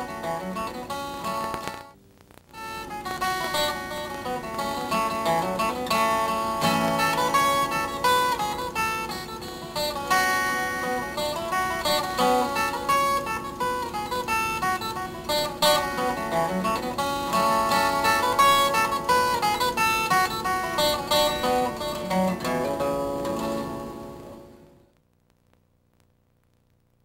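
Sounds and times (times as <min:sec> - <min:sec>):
acoustic guitar music: 0:00.0 - 0:24.9.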